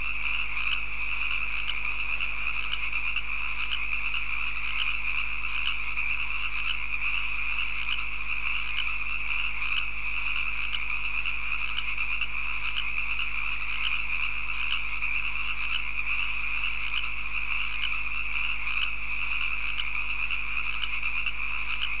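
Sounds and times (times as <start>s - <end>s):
frogs trilling: 0.0s - 22.0s.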